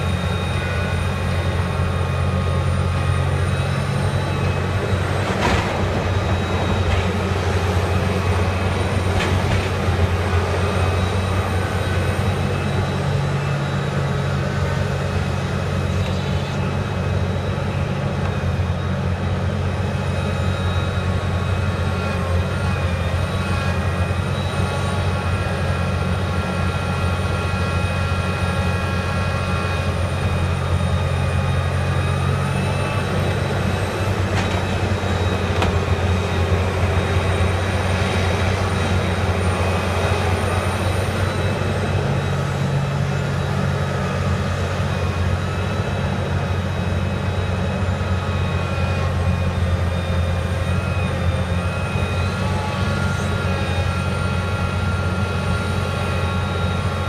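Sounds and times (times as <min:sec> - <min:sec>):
excavator diesel drone: 0:00.0 - 0:57.0.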